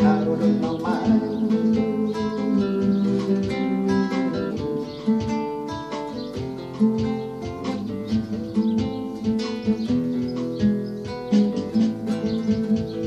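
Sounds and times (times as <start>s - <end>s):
acoustic guitar: 0.0s - 13.0s
electronic percussion beat: 0.0s - 13.0s.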